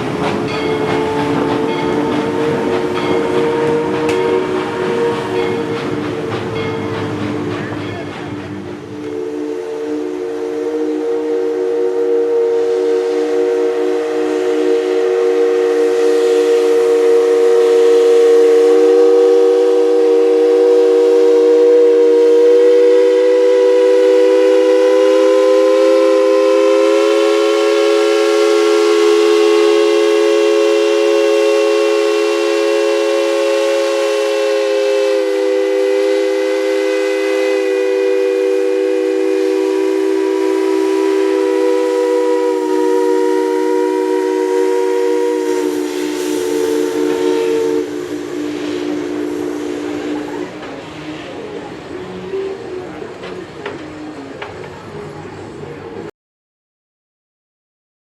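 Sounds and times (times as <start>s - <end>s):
steam locomotive whistle blast: 0.0s - 56.1s.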